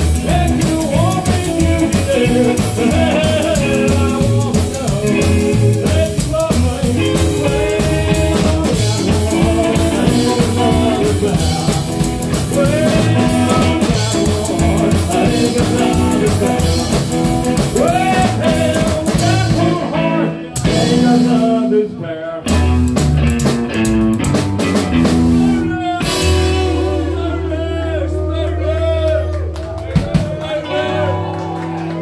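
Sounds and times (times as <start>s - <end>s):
man singing: 0.0s - 23.4s, 25.3s - 31.3s
drum kit: 0.0s - 28.3s, 29.4s - 32.0s
electric guitar: 0.0s - 32.0s
upright bass: 0.0s - 32.0s.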